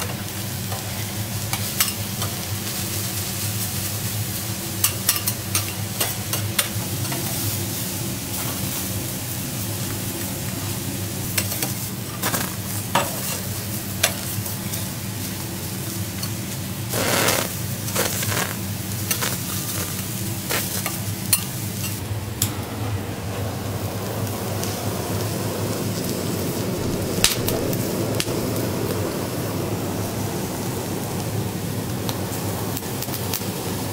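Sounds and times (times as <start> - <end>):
crab sizzling on a griddle: 0.0 - 33.9.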